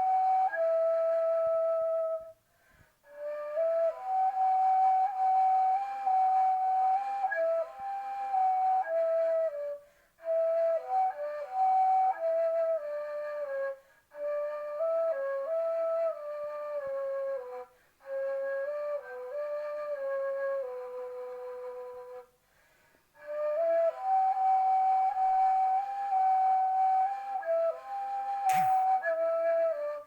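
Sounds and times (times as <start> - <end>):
solo flute melody: 0.0 - 30.0.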